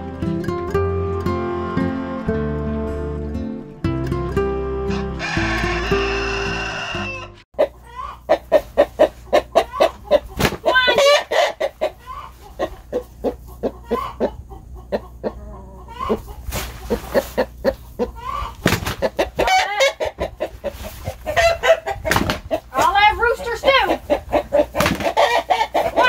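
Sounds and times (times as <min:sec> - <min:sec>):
rooster clucking: 0:04.9 - 0:26.0.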